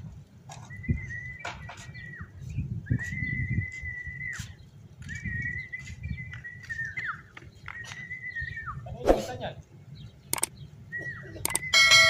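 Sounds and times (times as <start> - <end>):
bird chirps: 0.5 - 12.0.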